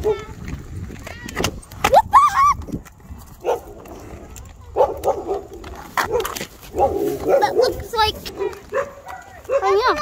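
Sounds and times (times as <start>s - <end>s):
roller-skate wheels rolling: 0.0s - 10.0s.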